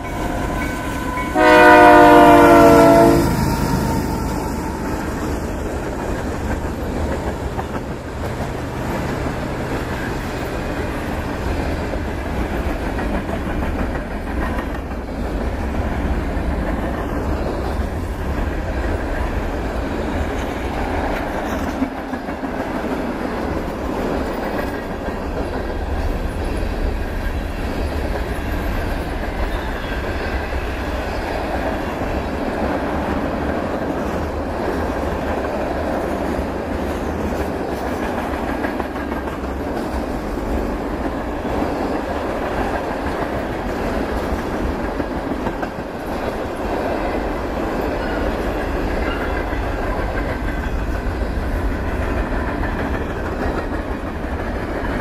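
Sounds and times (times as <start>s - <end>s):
freight train rolling past: 0.0s - 55.0s.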